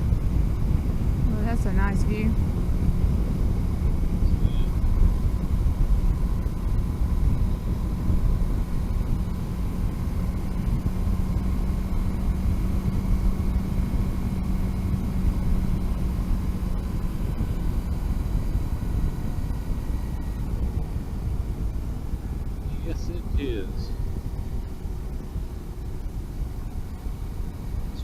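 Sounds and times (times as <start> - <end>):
motorcycle engine drone: 0.0 - 28.0
wind and road noise: 0.0 - 28.0.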